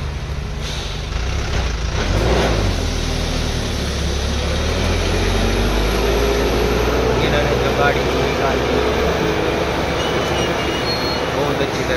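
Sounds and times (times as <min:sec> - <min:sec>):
truck diesel engine drone: 0:00.0 - 0:11.9.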